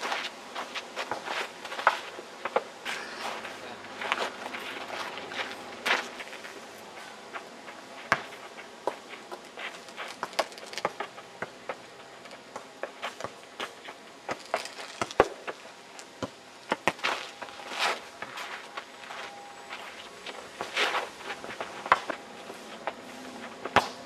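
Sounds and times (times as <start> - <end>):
footsteps crunching on dirt and leaves: 0.0 - 15.7, 16.8 - 24.0.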